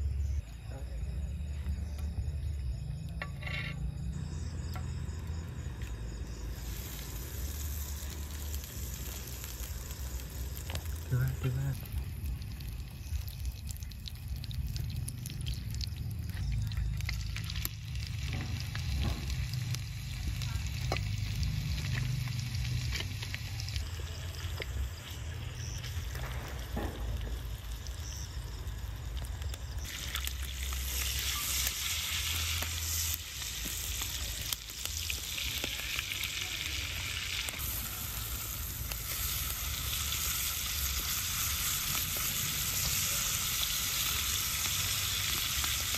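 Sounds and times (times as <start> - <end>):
food sizzling in a pan: 3.0 - 45.9.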